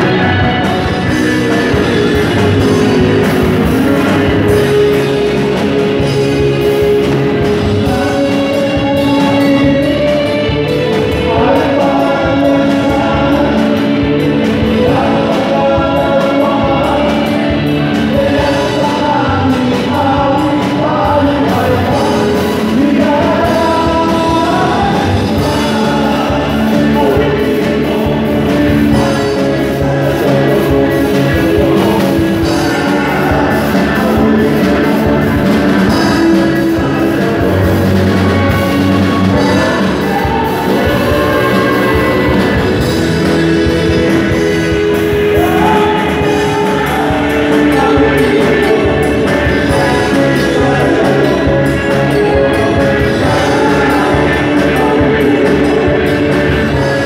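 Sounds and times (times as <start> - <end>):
drum kit: 0.0 - 57.0
electric guitar: 0.0 - 57.0
men singing together: 0.0 - 57.0.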